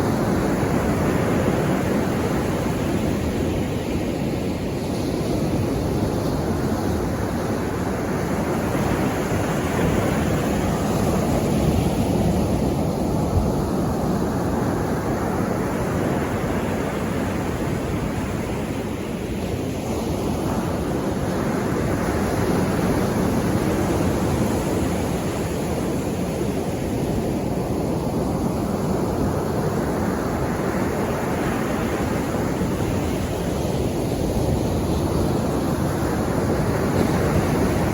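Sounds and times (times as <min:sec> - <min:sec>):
sea waves breaking on shore: 0:00.0 - 0:37.9.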